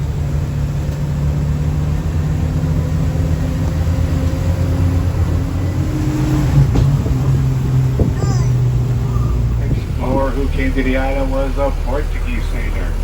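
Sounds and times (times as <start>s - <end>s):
vehicle engine humming with whine: 0.0s - 13.0s.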